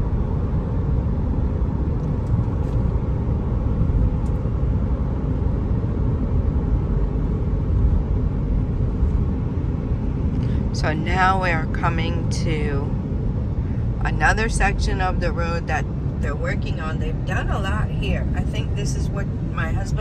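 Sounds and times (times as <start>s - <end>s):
car tyre and engine rumble: 0.0s - 20.0s.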